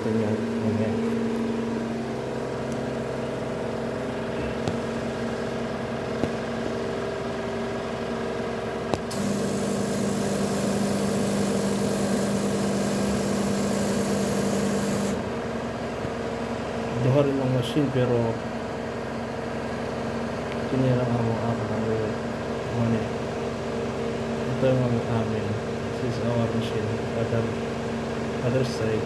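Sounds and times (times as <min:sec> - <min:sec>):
autoclave mechanical hum: 0:00.0 - 0:29.0.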